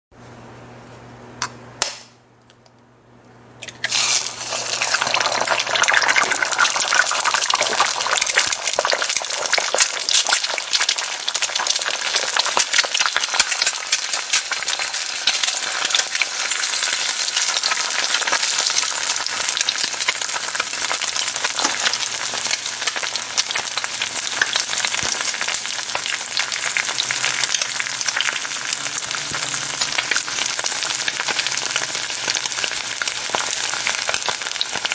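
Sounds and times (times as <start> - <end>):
egg sizzling in hot oil: 3.6 - 34.9.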